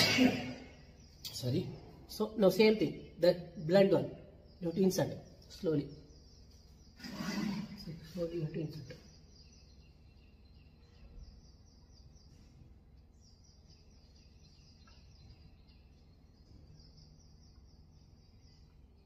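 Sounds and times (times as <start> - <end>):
faint high-pitched chirping: 0.0 - 19.0
low room hum: 0.0 - 19.0.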